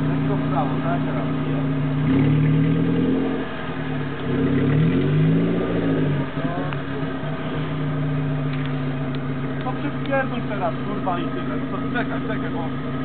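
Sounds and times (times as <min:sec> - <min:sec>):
engine revving under load: 0:00.0 - 0:13.0.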